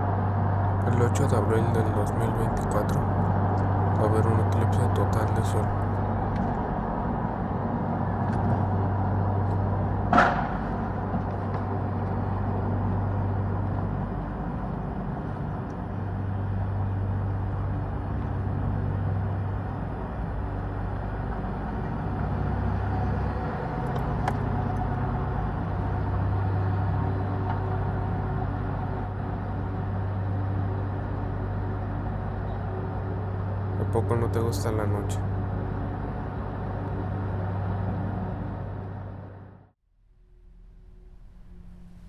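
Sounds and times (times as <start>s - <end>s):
low rumble with hum: 0.0s - 42.0s.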